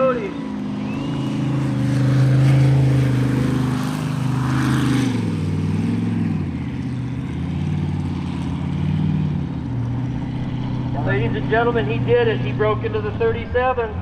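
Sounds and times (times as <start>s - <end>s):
boat engine running hard: 0.0s - 14.0s.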